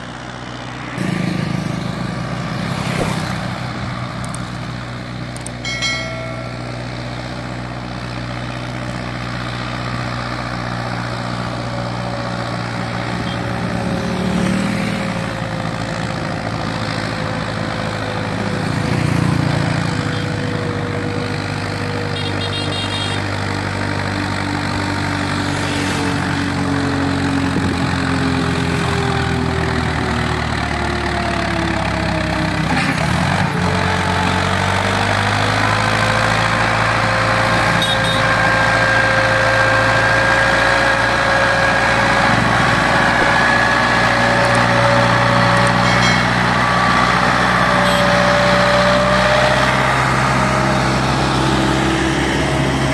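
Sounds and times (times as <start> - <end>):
motorcycles passing: 0.0 - 52.9
tractor diesel engine under load: 0.0 - 52.9.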